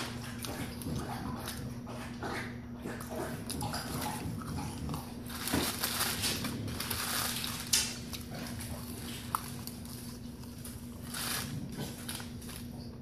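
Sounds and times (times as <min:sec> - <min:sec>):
man chewing noisily: 0:00.0 - 0:13.0.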